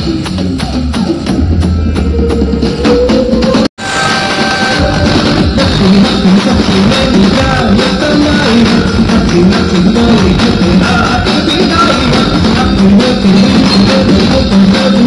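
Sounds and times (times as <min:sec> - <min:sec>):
live band over loudspeakers: 0:00.0 - 0:15.0
person singing: 0:01.7 - 0:15.0.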